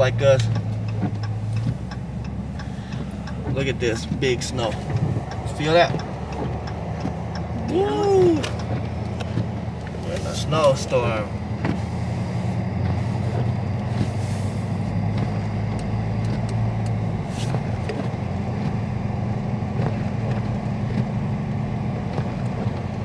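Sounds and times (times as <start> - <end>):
car engine drone from inside: 0.0 - 23.0
road noise: 0.0 - 23.0.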